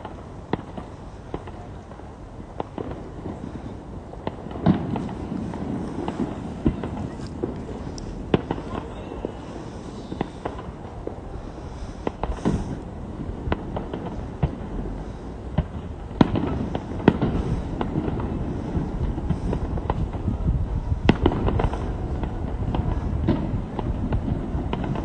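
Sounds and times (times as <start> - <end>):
continuous low rumble: 0.0 - 25.0
fireworks bangs and crackles: 0.0 - 25.0.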